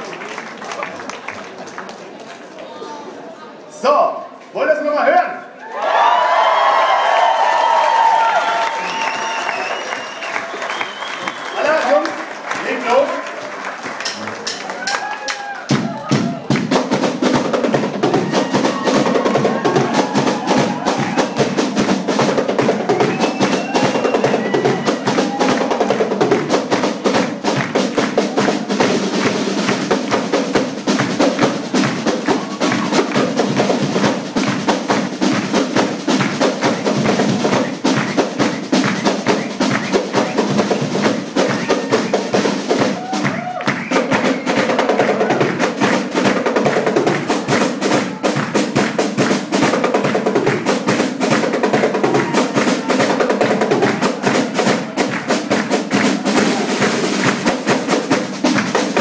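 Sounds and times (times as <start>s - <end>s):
drum group playing fast: 6.6s - 59.0s.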